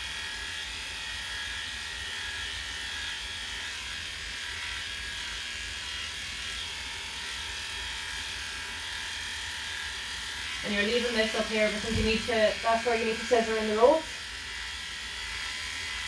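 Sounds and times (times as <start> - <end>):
electric clippers humming: 0.0 - 16.0.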